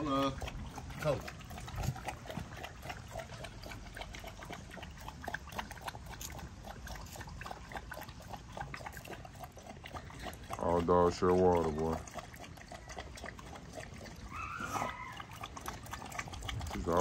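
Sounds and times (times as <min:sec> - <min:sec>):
dogs lapping water: 0:00.0 - 0:17.0.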